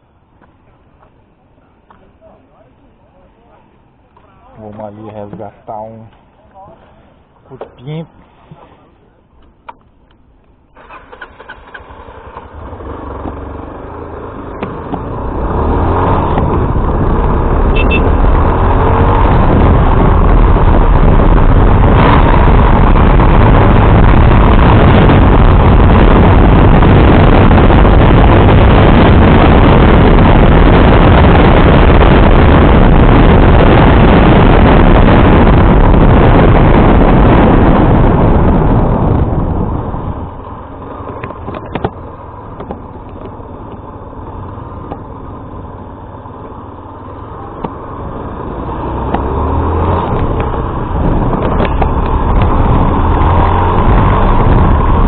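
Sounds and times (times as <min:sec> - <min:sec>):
wind and motorcycle road noise: 0:00.0 - 0:55.0.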